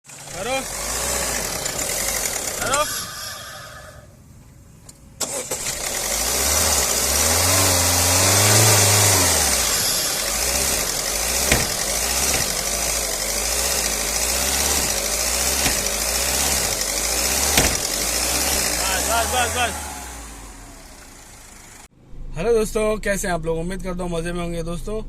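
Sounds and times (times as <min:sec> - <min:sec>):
car engine starting and idling: 0:00.0 - 0:25.0.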